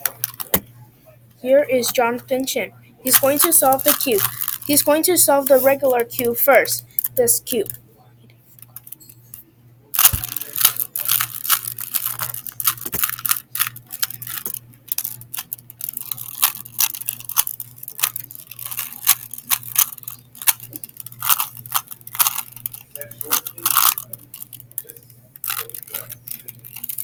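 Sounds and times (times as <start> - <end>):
puzzle cube plastic clicks: 0.0 - 0.7, 3.1 - 7.8, 10.0 - 27.0.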